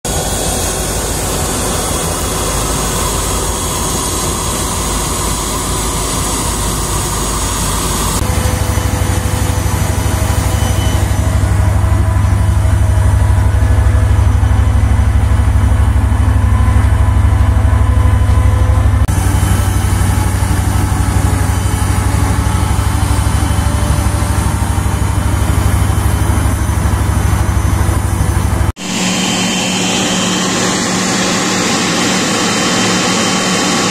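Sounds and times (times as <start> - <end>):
jet turbine hiss and whine: 0.1 - 33.9
pulsing engine throb: 0.1 - 33.9.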